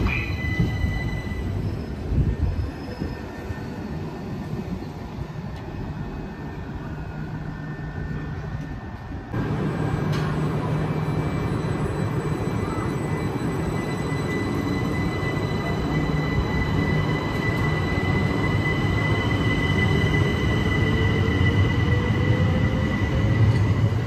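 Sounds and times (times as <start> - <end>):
electric train hum: 0.0 - 24.0
low train rumble: 0.0 - 24.0.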